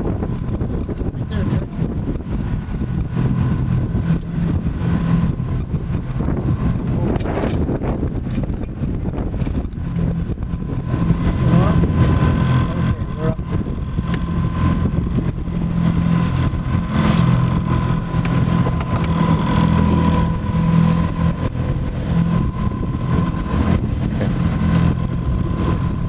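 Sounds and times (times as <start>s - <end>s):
outboard motor idling: 0.0s - 26.0s.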